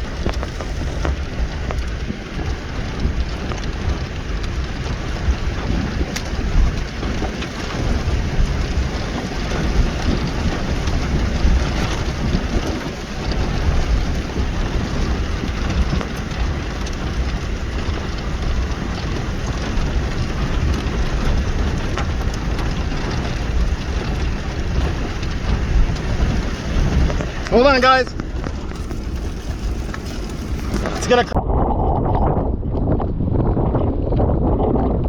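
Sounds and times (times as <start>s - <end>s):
rain: 0.0s - 31.4s
storm wind buffeting microphone: 0.0s - 35.0s.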